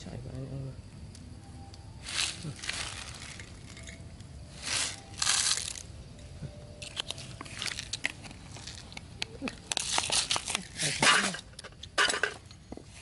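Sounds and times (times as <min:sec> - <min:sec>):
grains ticking and clicking: 0:01.0 - 0:12.0.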